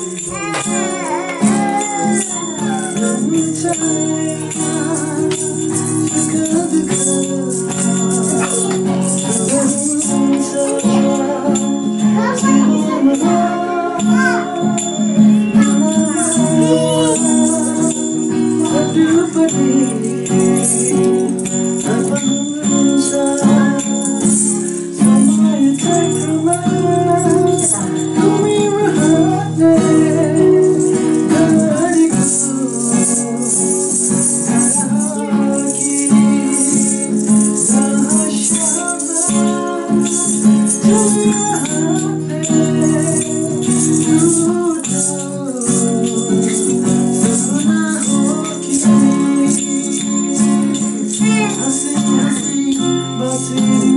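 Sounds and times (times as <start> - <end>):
acoustic guitar strumming: 0.0 - 53.9
hand rattle shaken: 0.0 - 53.9
man and woman singing: 0.0 - 53.9.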